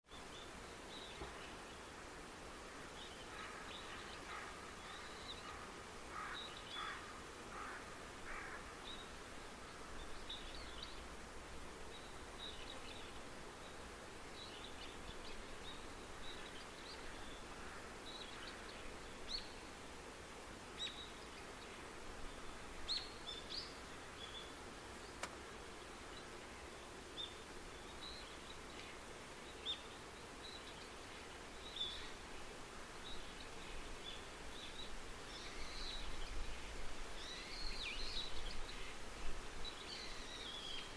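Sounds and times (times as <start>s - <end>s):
steady background hiss: 0.1s - 40.9s
small birds chirping: 2.7s - 11.2s, 11.8s - 19.7s, 20.7s - 40.9s.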